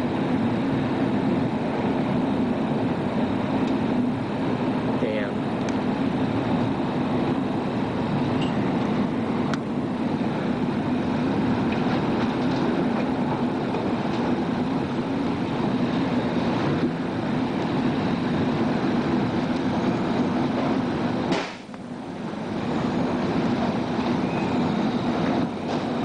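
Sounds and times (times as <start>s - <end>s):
tornado wind roaring: 0.0s - 26.0s.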